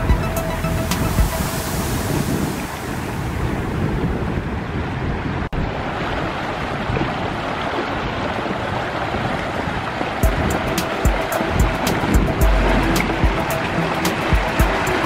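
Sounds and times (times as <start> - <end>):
river water rushing: 0.0 - 4.6, 5.6 - 15.0
wind buffeting microphone: 0.0 - 15.0.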